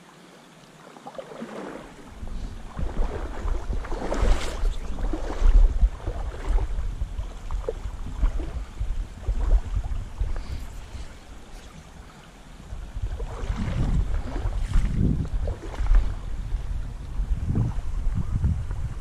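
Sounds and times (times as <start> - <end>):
river water splashing: 0.0 - 19.0
wind on microphone: 1.9 - 19.0.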